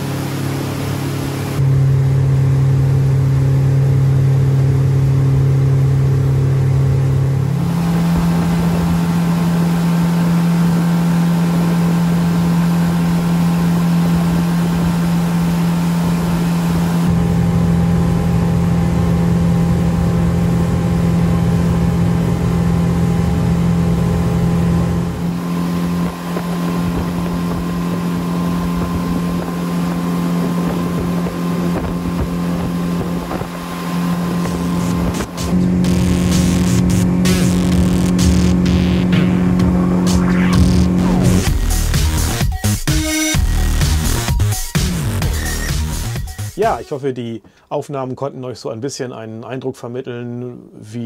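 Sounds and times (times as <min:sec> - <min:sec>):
outboard motor at high revs: 0:00.0 - 0:46.5.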